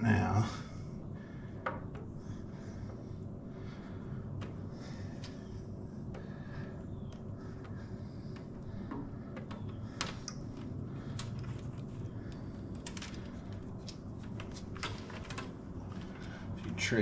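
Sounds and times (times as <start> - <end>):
steady low hum: 0.0 - 17.0
wiring harness clicks and rattles: 1.5 - 3.2, 4.2 - 17.0.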